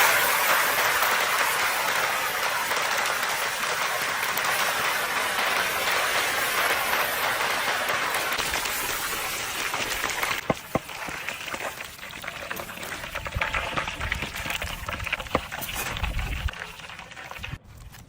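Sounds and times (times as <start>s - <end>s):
fish sizzling in hot oil: 0.0s - 17.6s
oil popping and crackling: 0.0s - 18.0s.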